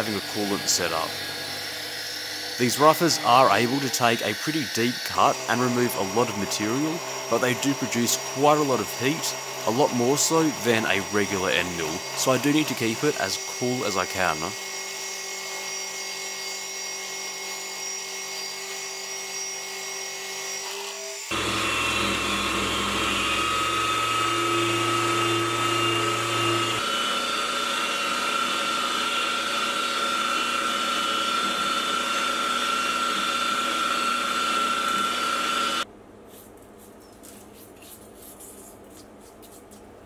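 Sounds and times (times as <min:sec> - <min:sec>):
milling machine whine: 0:00.0 - 0:35.9.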